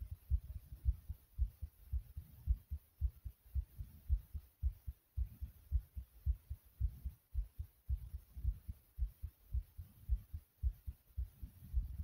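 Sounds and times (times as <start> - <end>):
fast heartbeat: 0.0 - 12.0.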